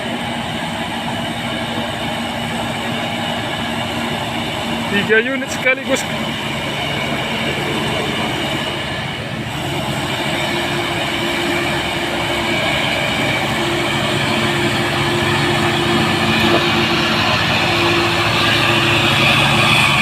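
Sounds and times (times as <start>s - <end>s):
diesel trucks labouring uphill: 0.0s - 20.0s.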